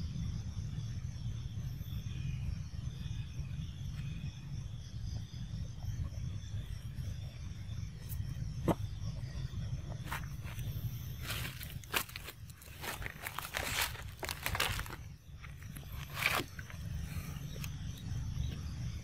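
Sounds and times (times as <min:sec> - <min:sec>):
insect buzzing: 0:00.0 - 0:19.0
low rumble: 0:02.3 - 0:19.0.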